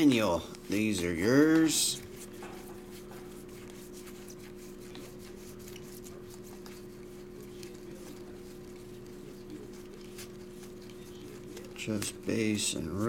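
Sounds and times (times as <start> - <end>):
cards being flipped through: 0.4 - 12.2.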